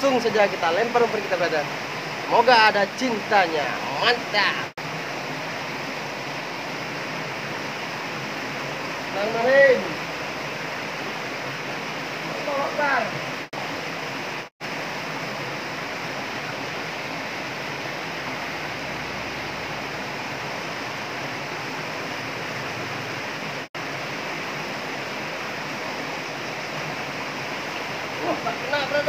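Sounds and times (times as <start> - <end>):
turbulent water rushing: 0.0 - 29.0.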